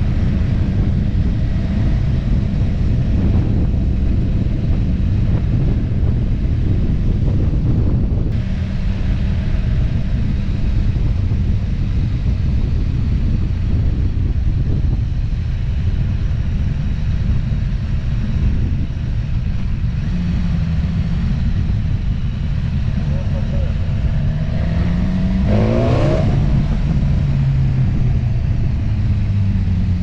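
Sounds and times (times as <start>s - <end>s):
vehicle engine rumble: 0.0s - 30.0s
wind buffeting microphone: 0.0s - 30.0s.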